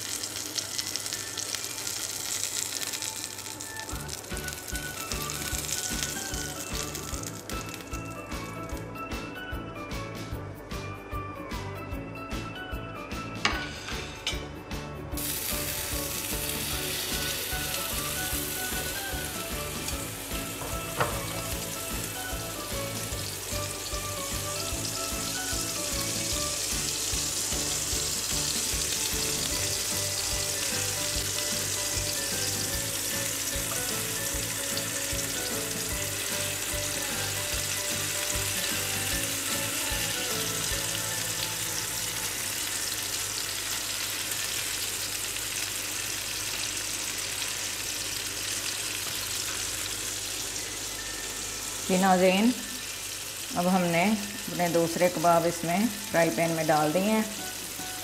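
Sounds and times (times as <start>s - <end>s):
kebabs sizzling in oil: 0.0s - 9.3s, 15.2s - 58.0s.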